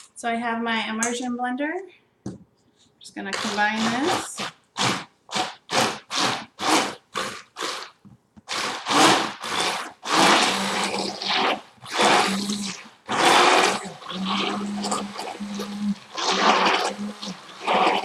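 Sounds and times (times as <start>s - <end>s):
wet churning: 3.3s - 18.0s
immersion blender motor hum: 3.4s - 18.0s.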